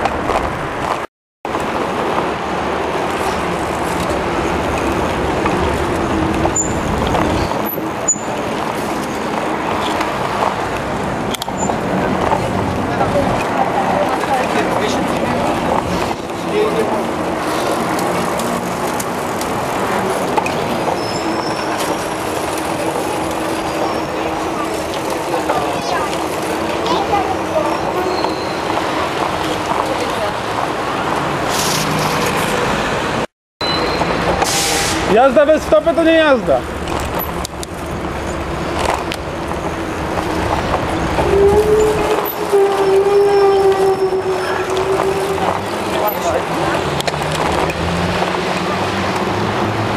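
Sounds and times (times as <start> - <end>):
motor vehicles humming: 0.0 - 49.9
street noise: 0.0 - 49.9
bicycle tyre noise: 0.2 - 32.9, 33.6 - 49.5.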